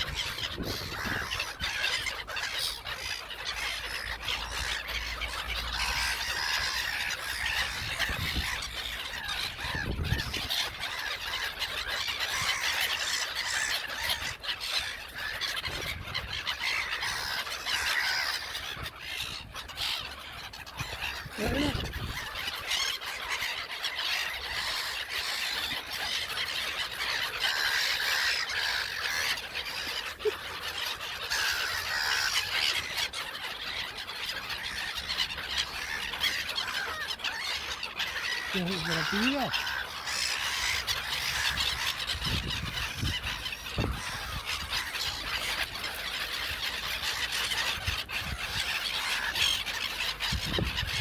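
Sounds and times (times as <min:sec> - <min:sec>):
flock of gulls calling: 0:00.0 - 0:51.0.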